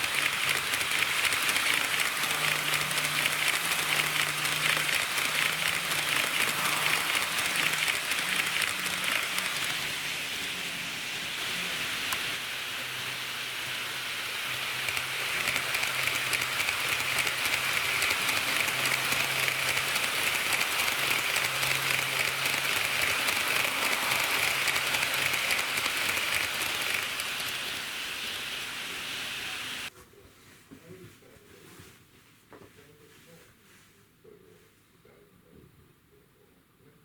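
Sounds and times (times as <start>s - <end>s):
faint motor hum: 0.0s - 29.9s
model train wheels on rail: 0.0s - 29.9s.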